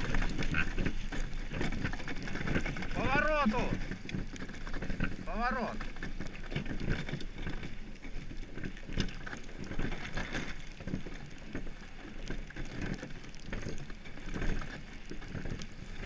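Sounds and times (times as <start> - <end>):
hull and rigging rattling: 0.0 - 16.0
iceboat runners rumbling on ice: 0.0 - 16.0.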